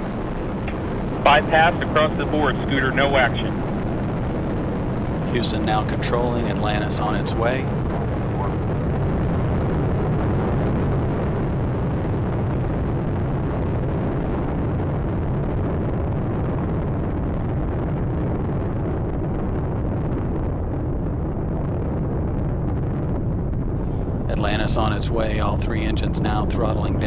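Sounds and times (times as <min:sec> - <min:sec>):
deep rocket engine rumble: 0:00.0 - 0:27.0.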